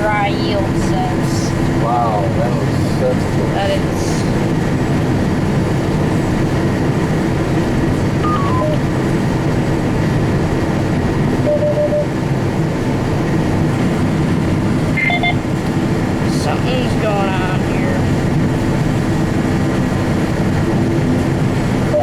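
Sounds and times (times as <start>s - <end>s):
combine harvester drone: 0.0s - 22.0s.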